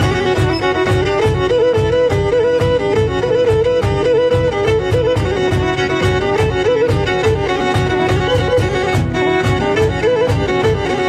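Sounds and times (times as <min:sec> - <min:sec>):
bowed string melody over beat: 0:00.0 - 0:11.0.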